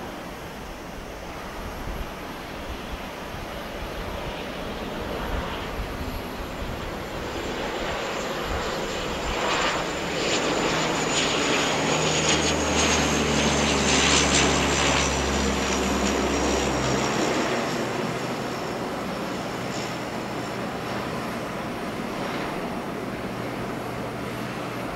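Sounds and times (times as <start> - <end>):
high turbine whine: 0.0 - 24.9
low propeller drone: 0.0 - 24.9.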